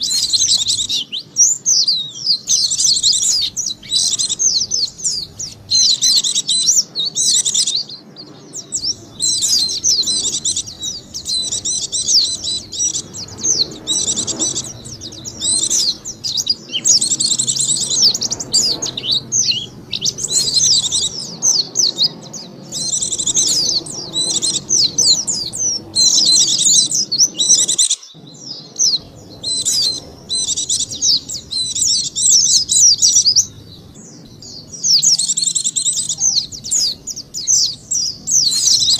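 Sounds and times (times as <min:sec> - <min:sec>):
bird twittering: 0:00.0 - 0:38.9.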